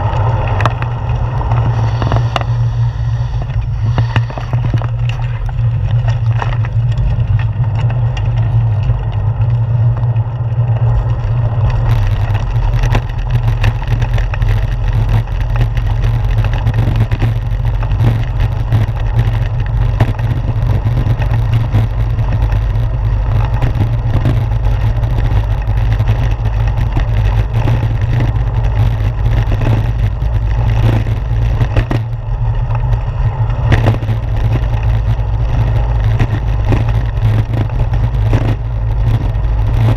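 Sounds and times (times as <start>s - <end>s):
road noise: 0.0s - 39.9s
wind rumble: 0.0s - 39.9s.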